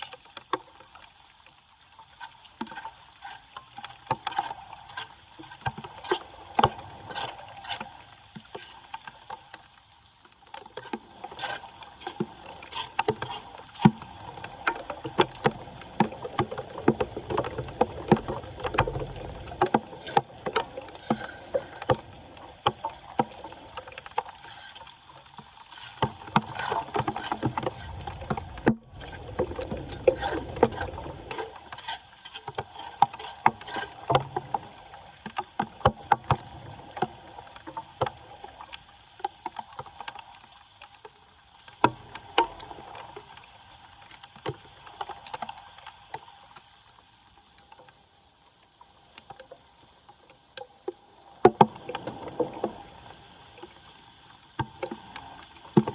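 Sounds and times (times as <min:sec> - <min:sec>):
water sloshing and splashing: 0:00.0 - 0:55.9.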